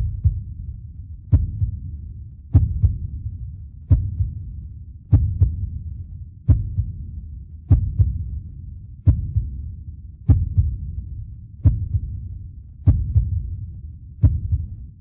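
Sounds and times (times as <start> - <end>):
deep double thumps: 0.0 - 15.0
low rumble: 0.0 - 15.0.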